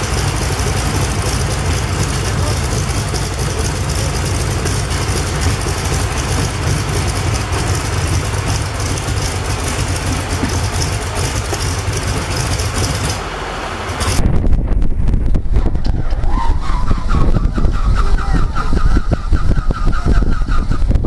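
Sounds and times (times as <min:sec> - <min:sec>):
radial aircraft engine running: 0:00.0 - 0:21.0.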